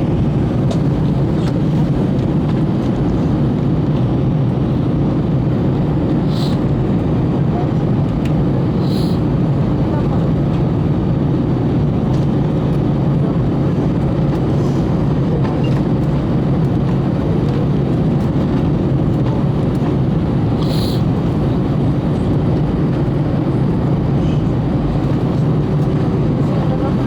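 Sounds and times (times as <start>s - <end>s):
airplane cabin engine roar: 0.0s - 27.0s.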